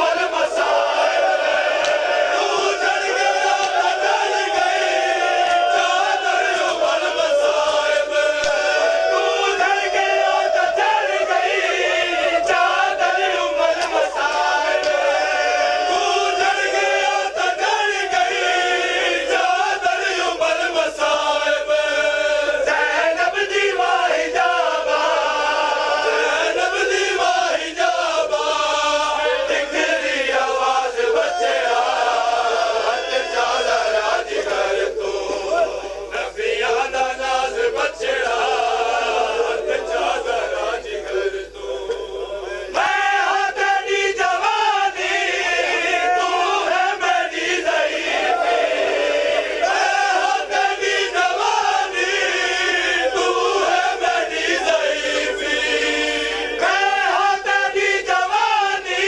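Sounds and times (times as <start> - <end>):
men chanting a lament: 0.0 - 59.0.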